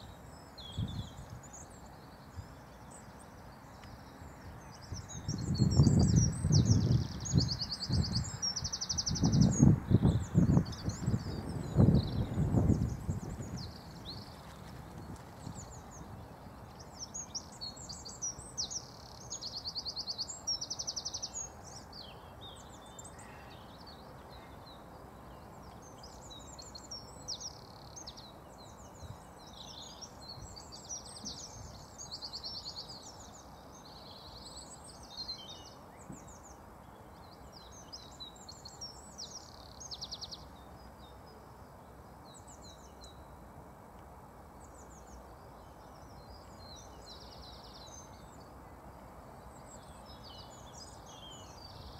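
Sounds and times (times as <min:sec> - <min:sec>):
low outdoor background noise: 0:00.0 - 0:51.9
songbirds chirping and trilling: 0:00.0 - 0:51.9.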